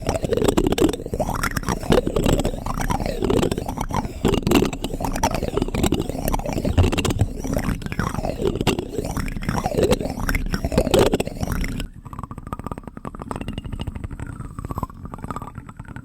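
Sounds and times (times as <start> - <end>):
wet mouth sounds on spoon: 0.0 - 13.2.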